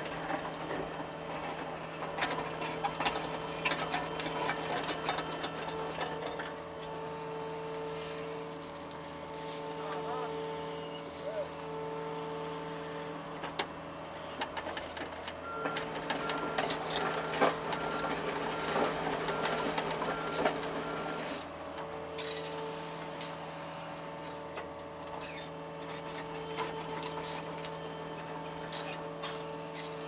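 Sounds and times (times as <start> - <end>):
excavator engine and hydraulics: 0.0 - 30.0.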